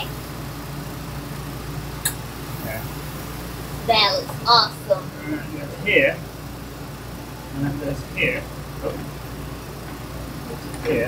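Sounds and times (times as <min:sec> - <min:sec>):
low mechanical hum with hiss: 0:00.0 - 0:11.0.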